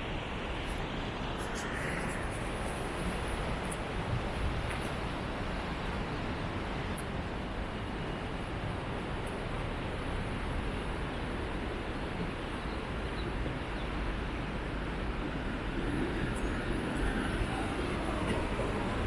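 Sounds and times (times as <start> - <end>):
outdoor ambient rushing noise: 0.0 - 19.0.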